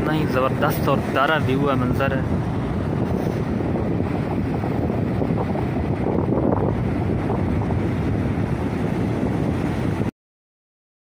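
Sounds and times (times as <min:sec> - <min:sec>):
sea surf on beach: 0:00.0 - 0:10.1
wind buffeting microphone: 0:00.0 - 0:10.1.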